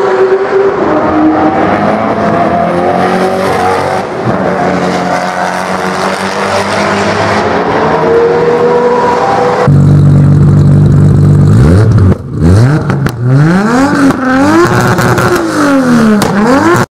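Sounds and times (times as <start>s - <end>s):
car engine accelerating hard: 0.0s - 16.9s.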